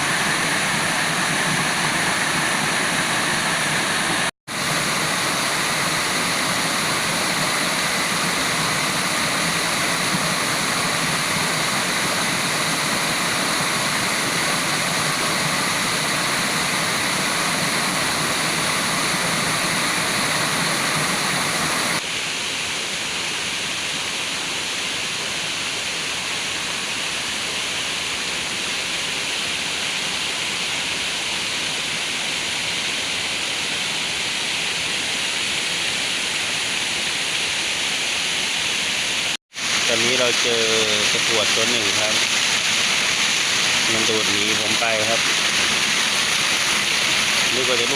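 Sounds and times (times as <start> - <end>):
waterfall rushing: 0.0 - 25.6, 26.4 - 47.9.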